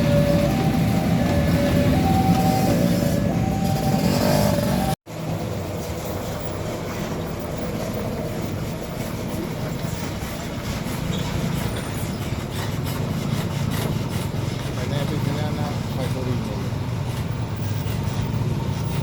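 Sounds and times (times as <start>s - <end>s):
truck engines rumbling: 0.0s - 19.0s
tyre and road noise: 0.0s - 19.0s.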